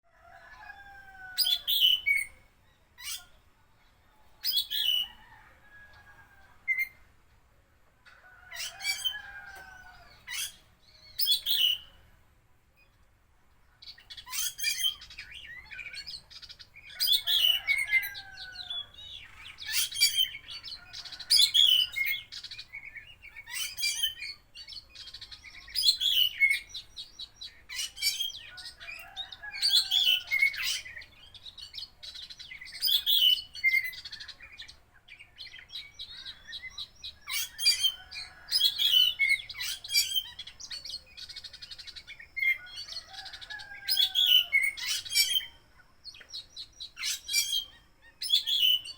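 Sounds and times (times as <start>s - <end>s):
songbird singing varied phrases: 0.6s - 7.1s, 8.6s - 12.2s, 13.7s - 48.9s.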